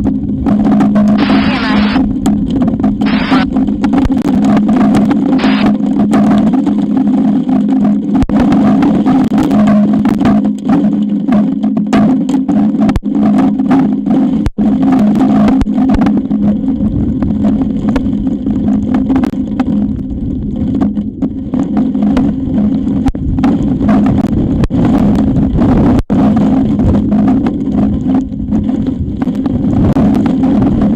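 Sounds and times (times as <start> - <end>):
high wind on microphone: 0.0 - 30.9.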